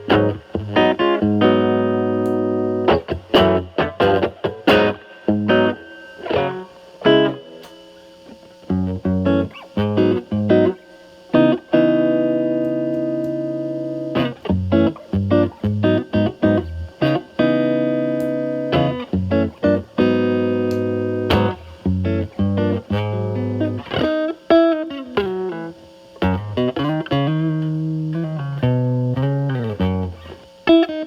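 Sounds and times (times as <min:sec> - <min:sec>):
distorted electric guitar chords: 0:00.0 - 0:31.0.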